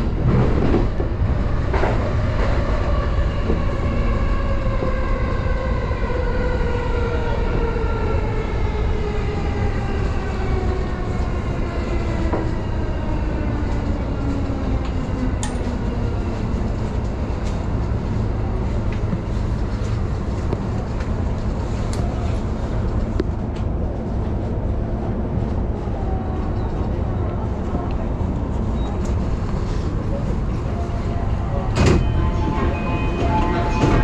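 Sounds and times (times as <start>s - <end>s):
electric train rumble: 0.0s - 34.0s.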